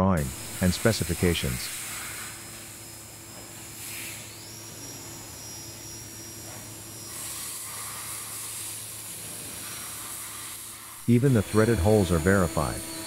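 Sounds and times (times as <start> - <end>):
machinery hum with hiss: 0.0 - 13.0.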